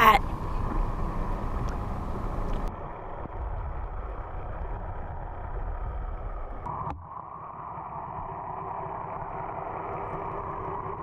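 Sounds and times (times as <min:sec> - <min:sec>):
muffled underwater rumble: 0:00.0 - 0:11.0.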